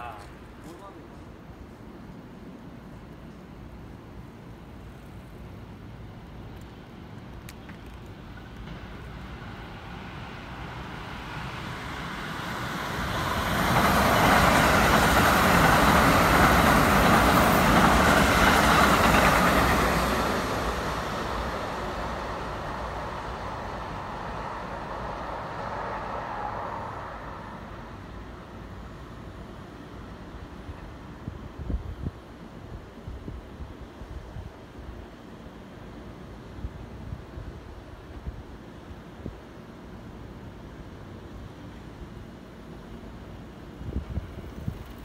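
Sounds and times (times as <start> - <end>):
electric train passing: 1.4 - 45.0.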